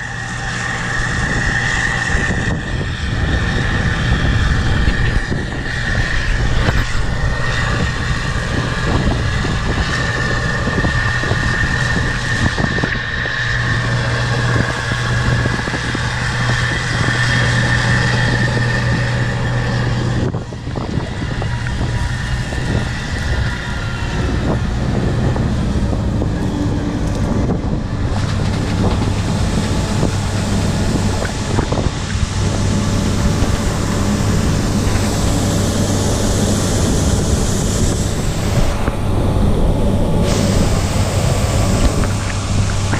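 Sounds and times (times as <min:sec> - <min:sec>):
combine harvester engine hum: 0:00.0 - 0:42.9
high mechanical whine: 0:00.0 - 0:42.9.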